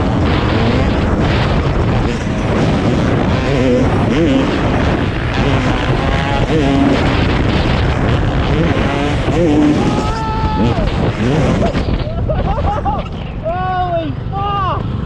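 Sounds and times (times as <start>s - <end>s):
dirt bike engine revving: 0.0s - 13.4s
wind on microphone: 0.0s - 15.0s.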